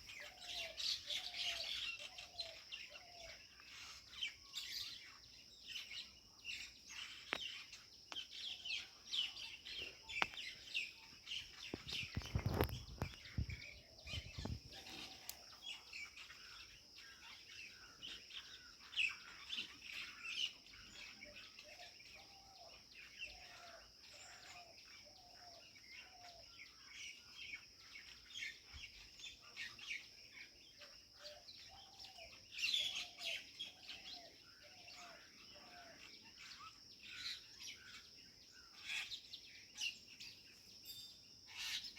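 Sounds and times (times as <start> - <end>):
lower repeated bird call: 0.0 - 30.1, 30.7 - 41.9
small birds chirping: 0.0 - 41.9
steady high-pitched hiss: 0.0 - 41.9.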